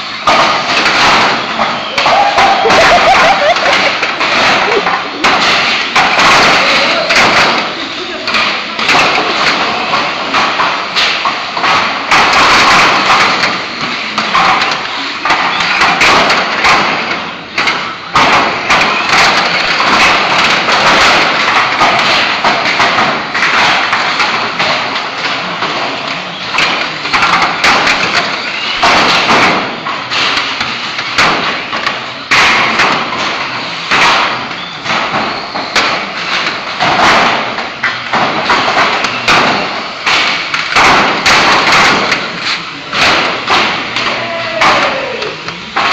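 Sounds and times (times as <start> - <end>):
toy cars knocking and thudding: 0.0 - 45.9.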